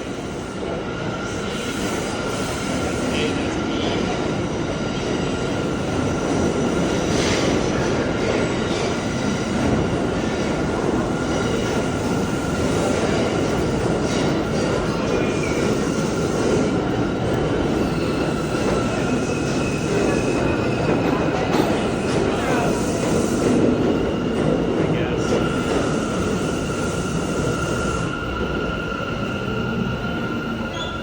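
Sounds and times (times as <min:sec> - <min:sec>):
subway train rumble: 0:00.0 - 0:31.0.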